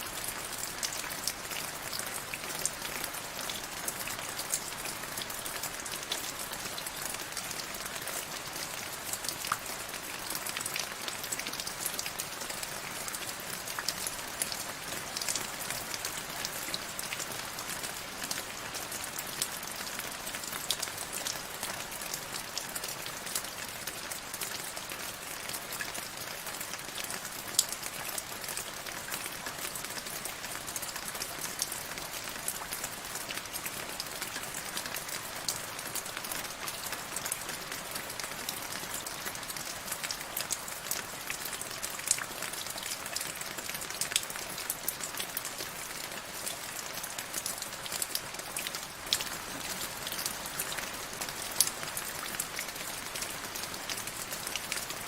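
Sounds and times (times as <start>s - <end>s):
rain drops ticking on hard surface: 0.1s - 55.0s.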